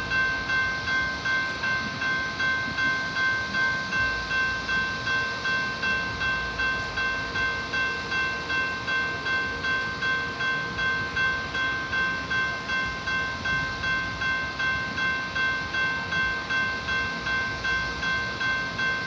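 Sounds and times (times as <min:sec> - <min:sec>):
crossing bell ringing: 0:00.0 - 0:19.0.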